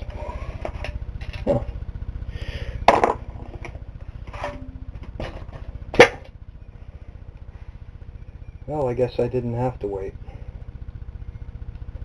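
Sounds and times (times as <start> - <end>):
low pulsing hum: 0.0 - 12.0.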